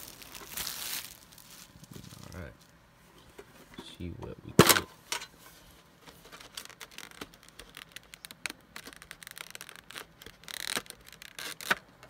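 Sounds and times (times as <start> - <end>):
cards and foil packs rustling: 0.0 - 2.8, 4.6 - 12.0.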